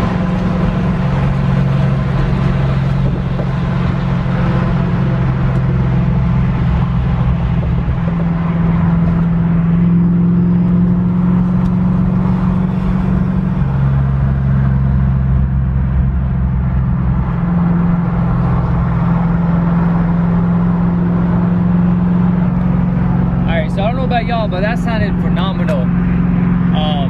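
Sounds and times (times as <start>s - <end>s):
car exhaust drone: 0.0s - 27.0s.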